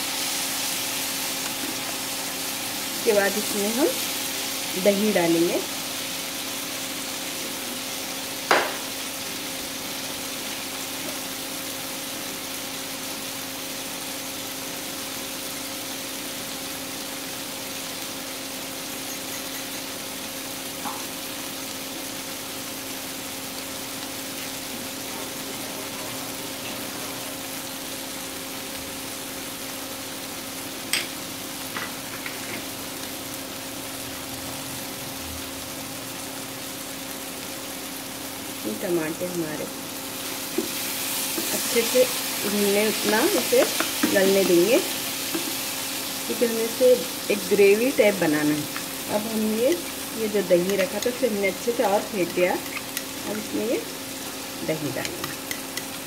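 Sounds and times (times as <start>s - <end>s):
tomatoes sizzling in oil: 0.0s - 56.0s.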